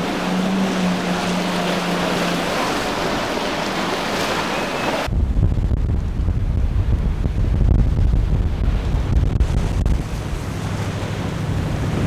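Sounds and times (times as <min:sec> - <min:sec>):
boat engine tone: 0:00.0 - 0:05.1, 0:07.2 - 0:12.0.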